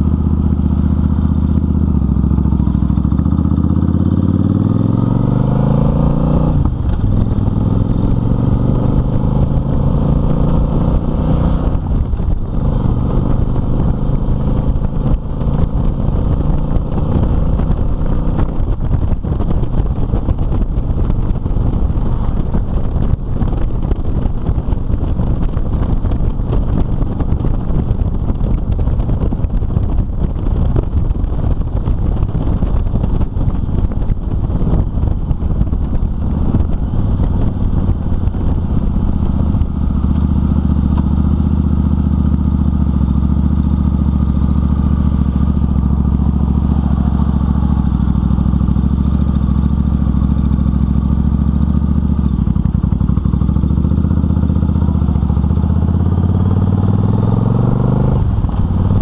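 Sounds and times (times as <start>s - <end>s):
wind buffeting microphone: 0.0s - 54.0s, 55.0s - 59.0s
motorcycle engine: 0.0s - 59.0s.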